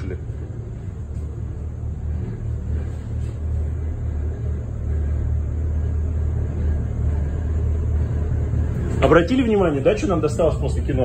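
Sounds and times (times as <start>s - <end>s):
bus drivetrain rumble: 0.0s - 11.0s.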